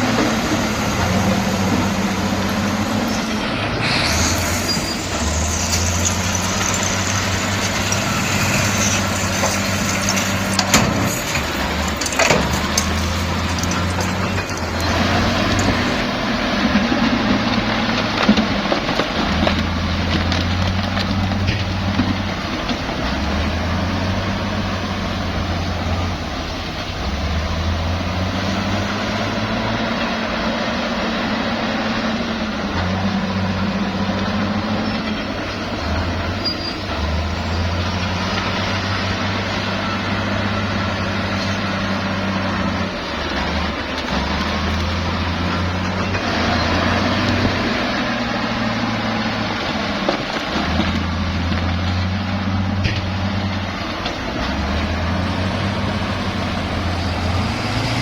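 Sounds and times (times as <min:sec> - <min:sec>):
bulldozer engine: 0:00.0 - 0:58.0
rattly mechanical noise: 0:00.0 - 0:58.0.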